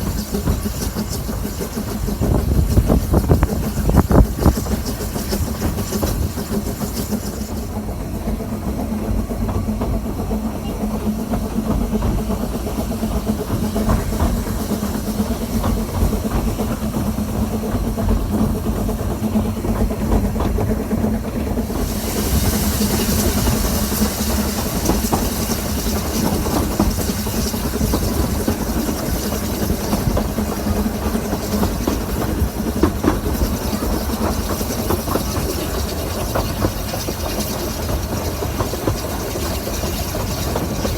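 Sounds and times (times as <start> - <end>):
loud steam hiss: 0.0 - 19.5, 21.5 - 40.9
steam train rumble: 0.0 - 40.9.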